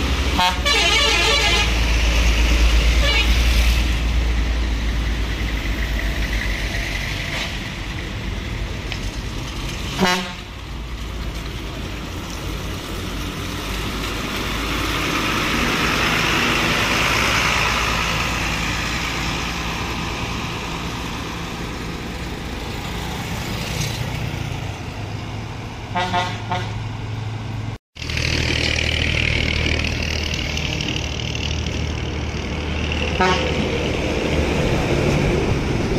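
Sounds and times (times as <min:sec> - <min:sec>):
traffic rumble: 0:00.0 - 0:35.9.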